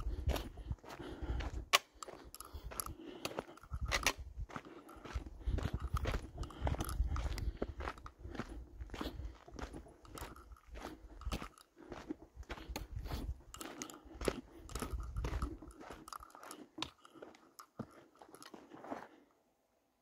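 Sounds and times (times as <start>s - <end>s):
footsteps crunching on gravel: 0.0s - 19.2s.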